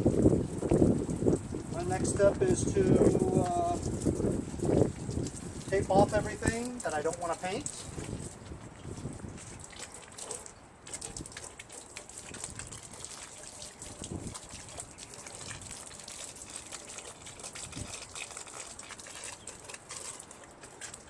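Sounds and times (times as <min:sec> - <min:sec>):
water drips: 0:00.0 - 0:21.0
water trickling and splashing: 0:00.0 - 0:21.0.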